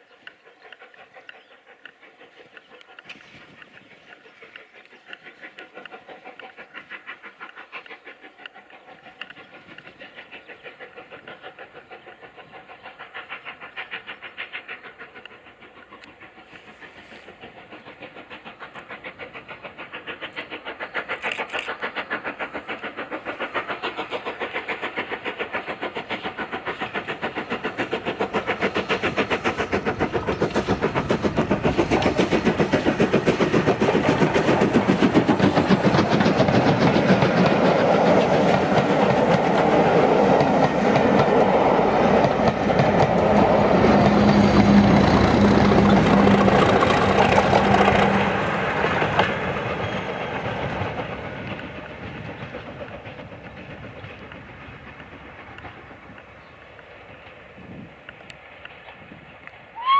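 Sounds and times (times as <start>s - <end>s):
steam locomotive exhaust chuffs: 0.0s - 59.9s.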